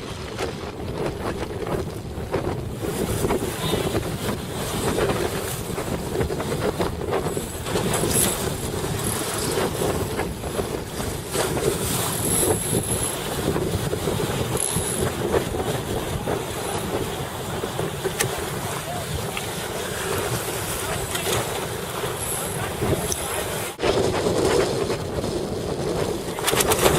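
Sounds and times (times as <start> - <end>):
water splashing against boat hull: 0.0 - 26.9
wind buffeting microphone: 0.0 - 26.9.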